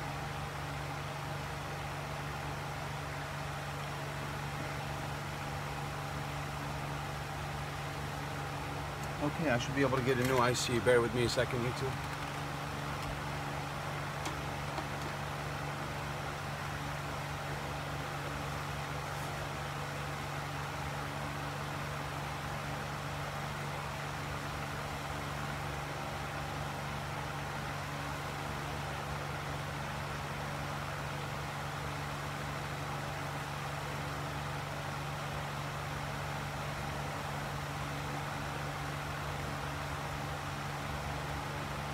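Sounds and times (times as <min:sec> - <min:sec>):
machine hum with fan whir: 0:00.0 - 0:41.9.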